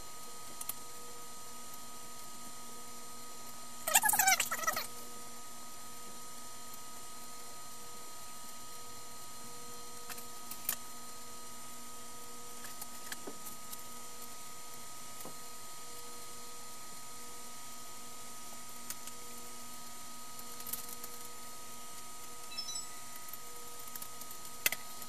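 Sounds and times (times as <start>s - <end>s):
computer equipment hum and hiss: 0.0s - 25.0s.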